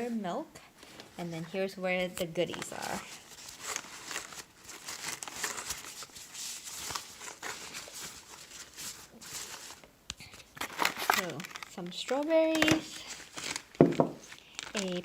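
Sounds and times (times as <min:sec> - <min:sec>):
grocery bag rustling: 0:01.4 - 0:09.8, 0:10.6 - 0:15.0.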